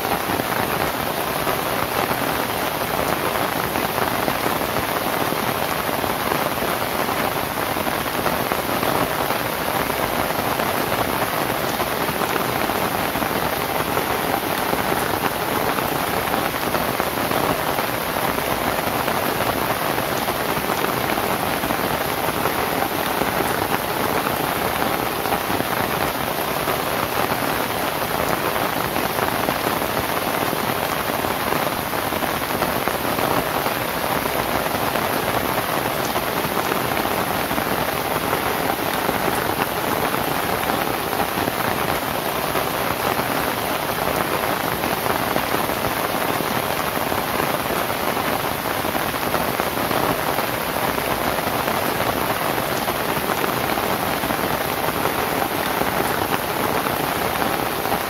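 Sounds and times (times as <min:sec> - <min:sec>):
rain on thatched roof: 0:00.0 - 0:58.0.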